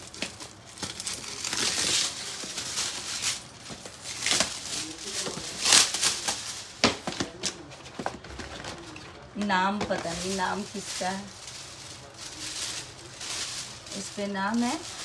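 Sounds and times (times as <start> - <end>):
wrapping paper crinkling and tearing: 0.0 - 9.0, 9.8 - 15.0.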